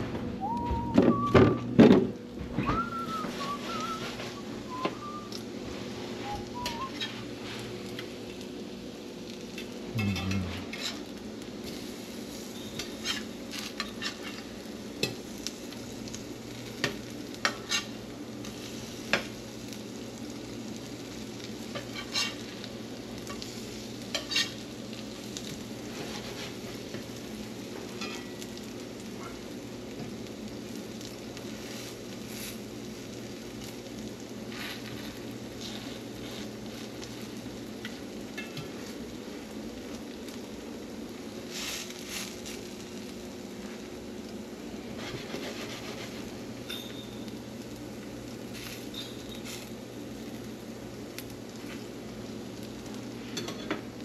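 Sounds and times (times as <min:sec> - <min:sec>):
food sizzling in a frying pan: 0:00.4 - 0:54.0.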